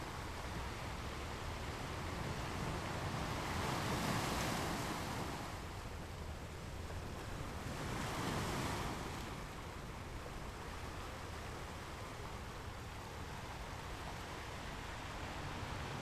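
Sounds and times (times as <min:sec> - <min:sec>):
ocean waves breaking on shore: 0:00.1 - 0:16.0.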